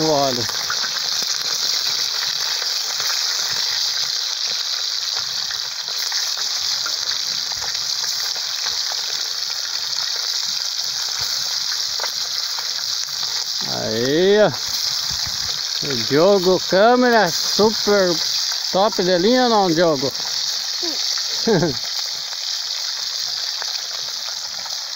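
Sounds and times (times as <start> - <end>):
fish deep-frying in hot oil: 0.0 - 24.9.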